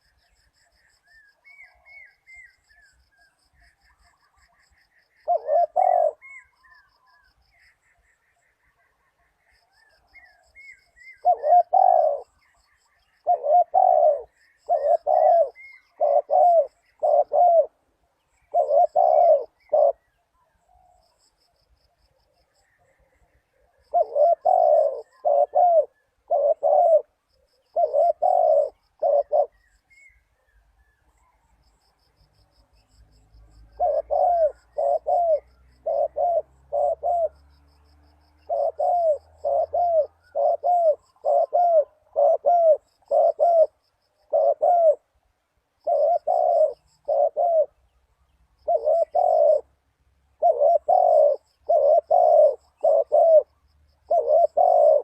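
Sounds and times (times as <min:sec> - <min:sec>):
dove cooing: 0:00.0 - 0:21.0, 0:22.4 - 0:31.8, 0:33.4 - 0:47.9, 0:48.6 - 0:55.0.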